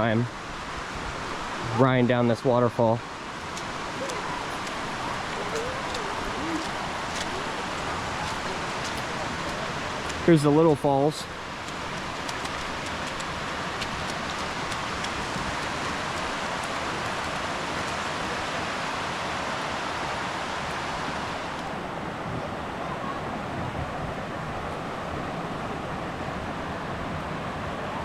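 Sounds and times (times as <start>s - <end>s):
water rushing over waterfall: 0.0s - 28.0s.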